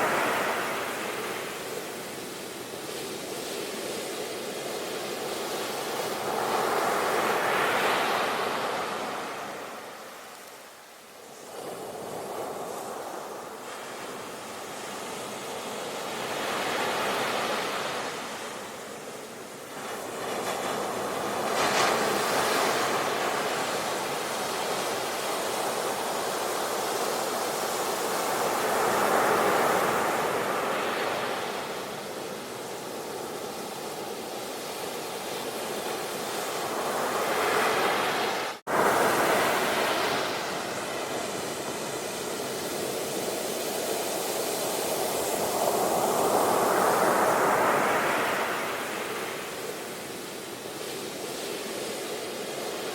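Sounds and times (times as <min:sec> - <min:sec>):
ocean waves washing onto shore: 0:00.0 - 0:52.9.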